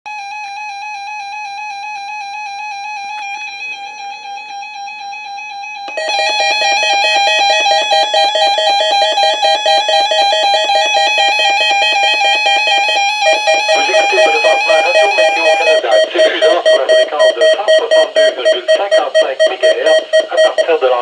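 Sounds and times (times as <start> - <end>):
electronic emergency alert tone: 2.5 - 21.0.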